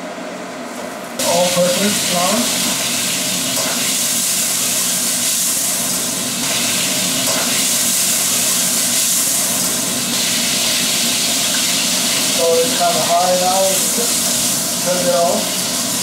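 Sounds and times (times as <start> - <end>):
fat sizzling in a frying pan: 1.2 - 16.0.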